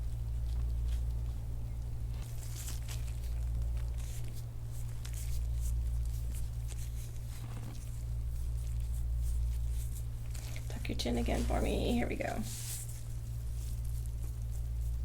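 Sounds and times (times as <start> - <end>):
low electrical hum: 0.0 - 15.0
scratchy rubbing on skin: 2.0 - 15.0.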